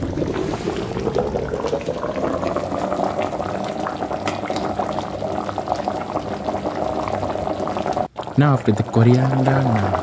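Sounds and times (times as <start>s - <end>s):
stew boiling and bubbling: 0.0s - 10.0s.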